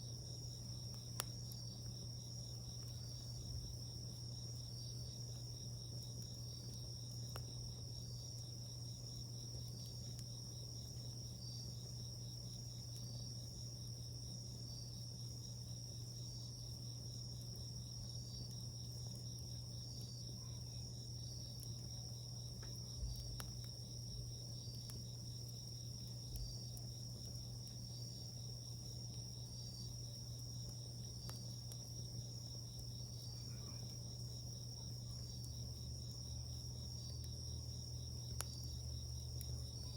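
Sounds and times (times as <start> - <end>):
insects trilling: 0.0 - 39.9
wood fire crackling: 0.0 - 39.9.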